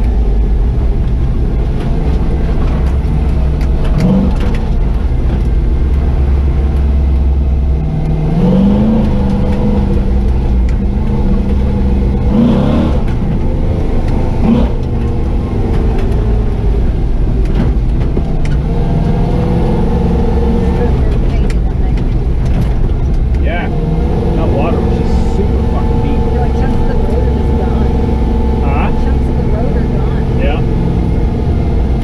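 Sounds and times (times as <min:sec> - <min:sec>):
drivetrain and road rumble: 0:00.0 - 0:32.0
truck engine revving: 0:00.0 - 0:32.0.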